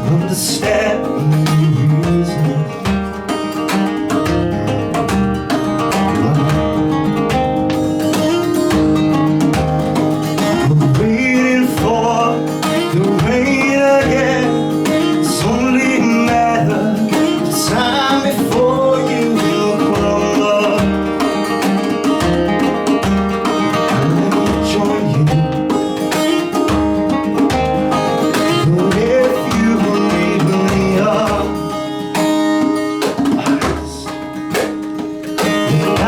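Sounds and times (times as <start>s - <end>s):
sliding lead melody: 0.0s - 36.0s
strummed acoustic guitar: 0.0s - 36.0s.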